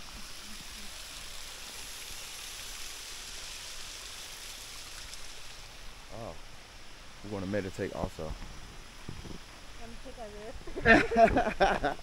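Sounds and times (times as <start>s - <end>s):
running water hiss: 0.0s - 12.0s.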